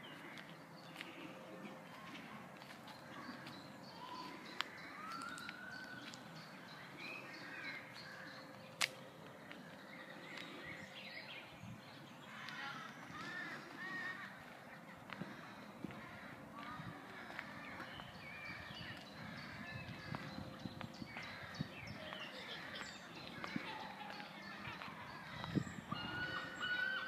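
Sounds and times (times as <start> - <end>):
birds chirping and warbling: 0.0 - 27.0
faint outdoor background noise: 0.0 - 27.0.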